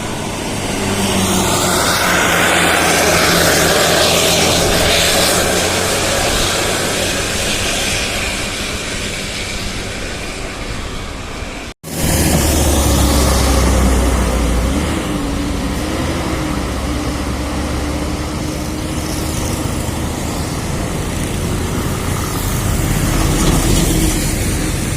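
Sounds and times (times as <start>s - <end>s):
bus engine rumble: 0.0s - 24.9s
road noise: 0.0s - 24.9s.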